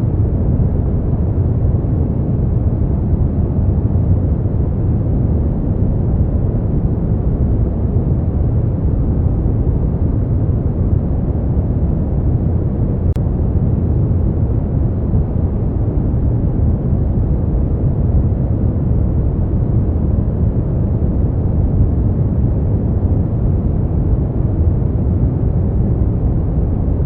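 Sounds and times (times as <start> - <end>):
deep rumbling brown noise: 0.0 - 27.0.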